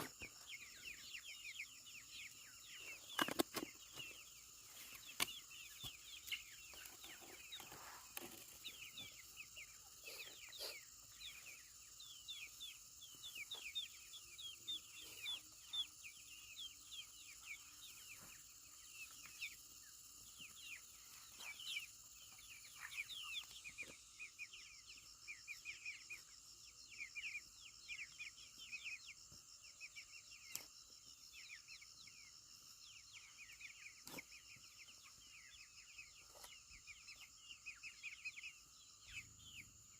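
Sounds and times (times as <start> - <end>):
chickens chirping: 0.0 - 39.9.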